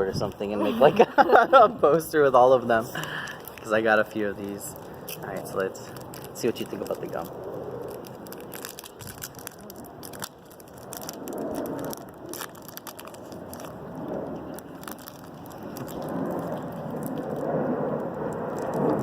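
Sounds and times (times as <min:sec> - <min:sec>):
plastic packaging crinkling: 0:03.0 - 0:03.8, 0:04.4 - 0:19.0.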